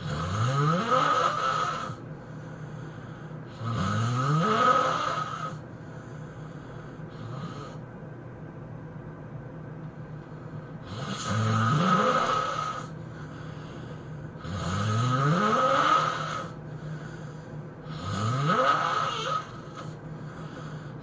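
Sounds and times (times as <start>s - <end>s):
person snoring: 0.0s - 7.8s, 10.8s - 21.0s.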